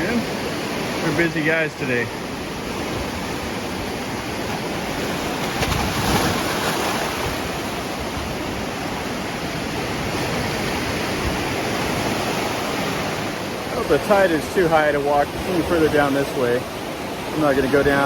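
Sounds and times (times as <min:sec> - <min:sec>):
surf washing against a seawall: 0:00.0 - 0:18.0.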